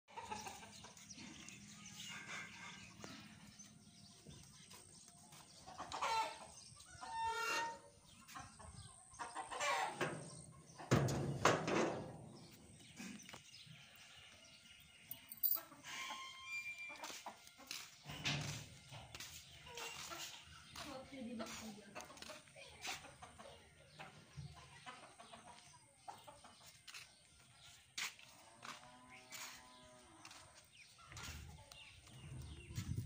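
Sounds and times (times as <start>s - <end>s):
poultry clucking: 0.1s - 14.5s, 15.2s - 33.0s.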